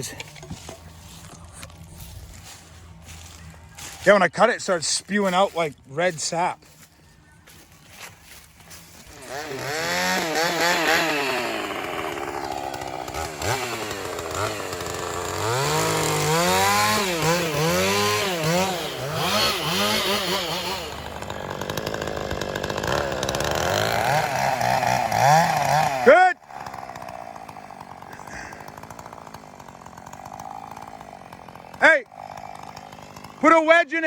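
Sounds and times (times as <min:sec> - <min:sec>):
chainsaw revving and cutting: 0:00.0 - 0:34.0.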